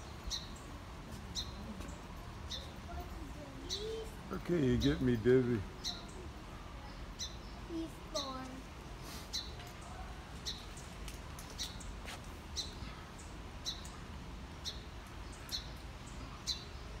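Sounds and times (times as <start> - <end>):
bird chirping: 0.0 - 2.8, 3.6 - 8.5, 9.3 - 17.0.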